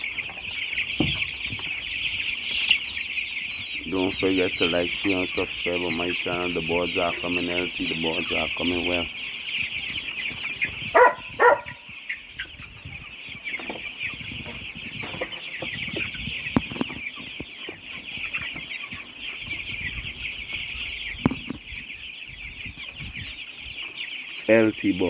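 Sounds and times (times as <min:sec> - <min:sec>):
chicks peeping: 0:00.0 - 0:25.0
loud chick calls: 0:00.0 - 0:25.0.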